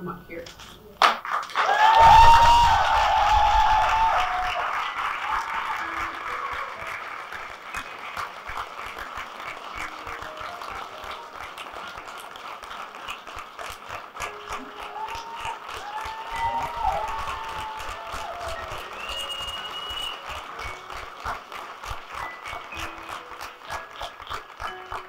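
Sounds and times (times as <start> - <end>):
audience applauding: 1.0 - 25.0.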